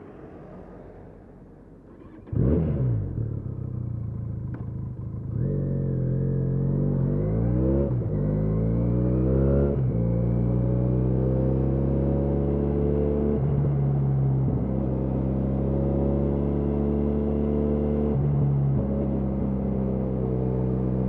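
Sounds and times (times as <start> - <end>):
motorcycle engine accelerating: 1.9 - 21.0
motorcycle engine revving: 1.9 - 21.0.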